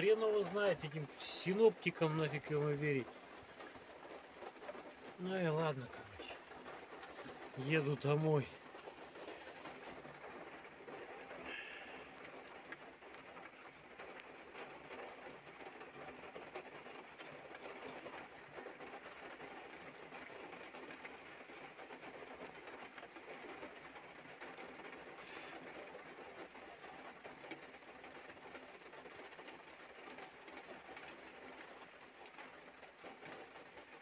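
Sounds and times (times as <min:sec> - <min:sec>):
light rain pattering: 0:00.0 - 0:34.0.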